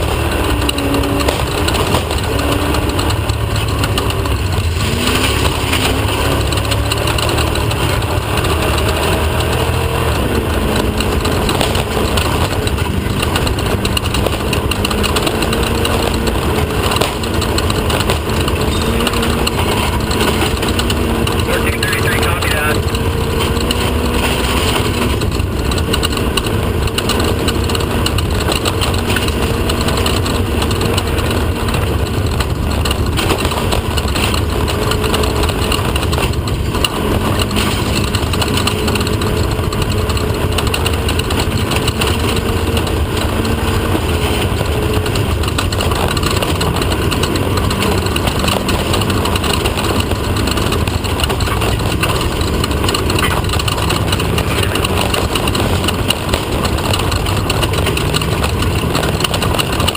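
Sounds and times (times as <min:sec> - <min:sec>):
race car engine droning: 0:00.0 - 0:59.9.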